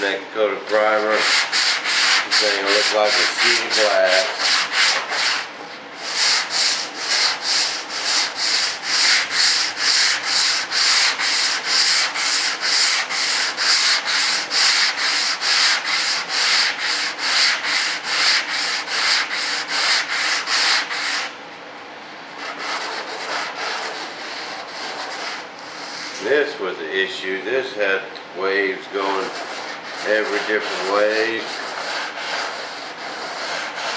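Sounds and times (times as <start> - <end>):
sandpaper scratching strokes: 0.7 - 21.3, 22.4 - 26.3, 29.0 - 33.9.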